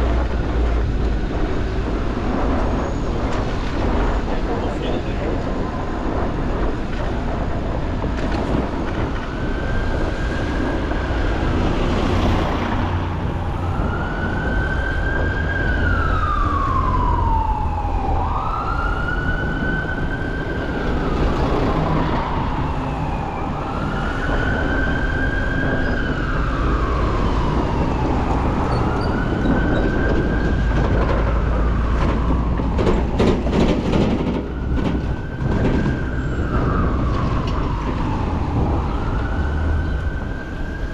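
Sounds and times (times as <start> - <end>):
emergency vehicle siren wailing: 0.0 - 40.9
low rumble of city traffic: 0.0 - 40.9.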